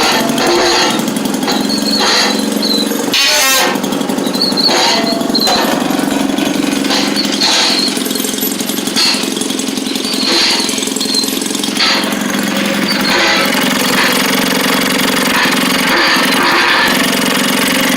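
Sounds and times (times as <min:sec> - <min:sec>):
two-stroke engine popping: 0:00.0 - 0:17.9.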